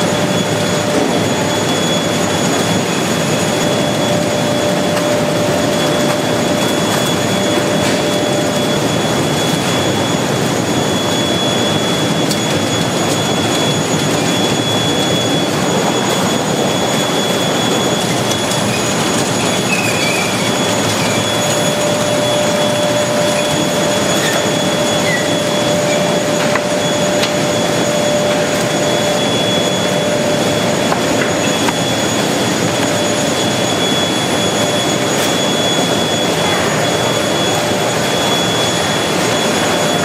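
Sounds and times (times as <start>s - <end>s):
conveyors running: 0.0s - 40.0s
steady machine whine: 0.0s - 40.0s.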